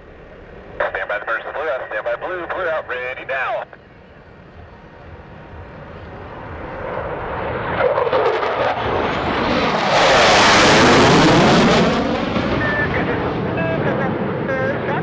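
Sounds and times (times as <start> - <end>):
high whine: 0.0 - 15.0
jet engine roar: 0.0 - 15.0.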